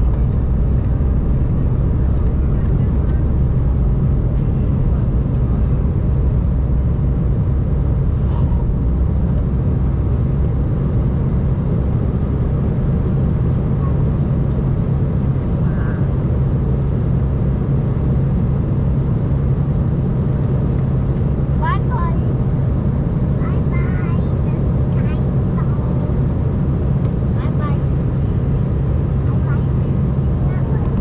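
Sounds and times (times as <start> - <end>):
airliner engines and airflow rumble: 0.0 - 31.0.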